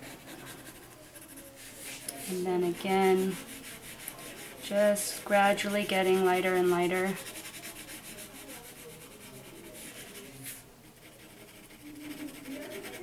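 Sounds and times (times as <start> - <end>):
colored pencil rubbing on paper: 0.0 - 13.0.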